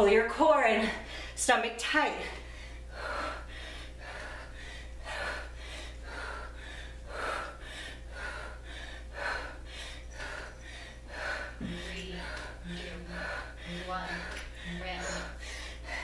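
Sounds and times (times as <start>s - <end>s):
woman breathing hard: 0.8s - 1.4s, 2.3s - 16.0s.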